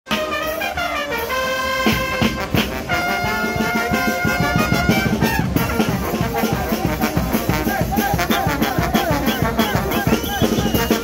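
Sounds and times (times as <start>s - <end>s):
brass band playing: 0.0s - 11.0s
steady beat: 0.1s - 11.0s.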